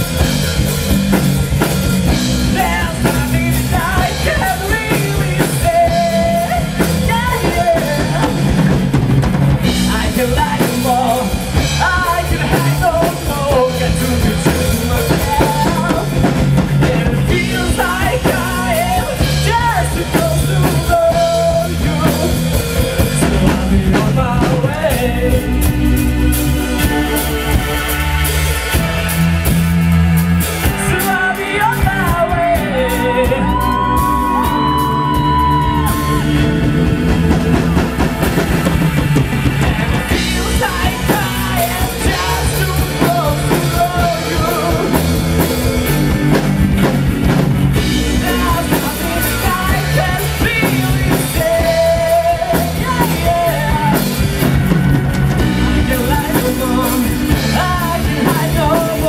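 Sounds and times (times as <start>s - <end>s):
live rock band playing: 0.0s - 59.0s
person singing: 2.4s - 8.8s, 9.6s - 27.2s, 30.6s - 46.4s, 47.8s - 59.0s.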